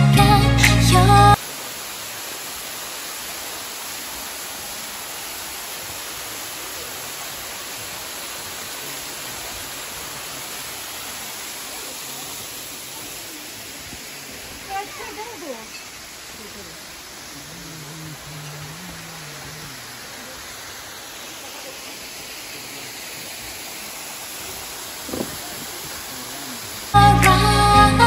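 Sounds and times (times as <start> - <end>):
waterfall rushing: 0.2 - 28.0.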